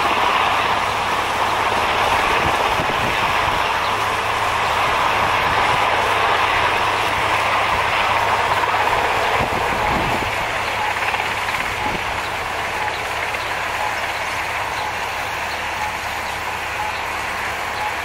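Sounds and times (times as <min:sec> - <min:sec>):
helicopter rotors and turbines: 0:00.0 - 0:18.0.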